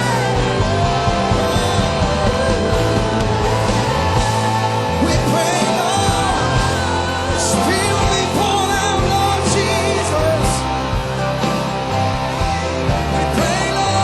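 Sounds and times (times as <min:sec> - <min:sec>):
voices singing and calling out: 0:00.0 - 0:14.0
worship band playing loud music: 0:00.0 - 0:14.0.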